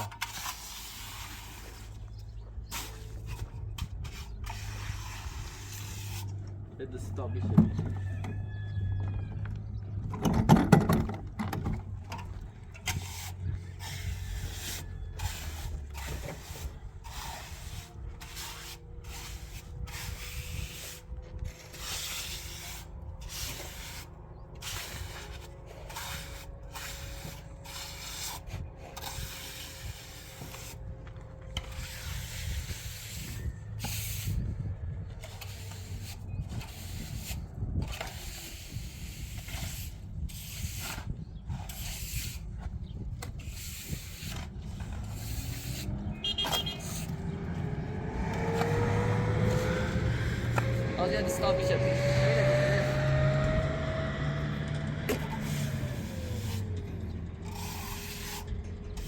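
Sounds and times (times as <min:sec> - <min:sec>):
hand scraping strokes: 0:00.0 - 0:07.1, 0:12.1 - 0:59.0.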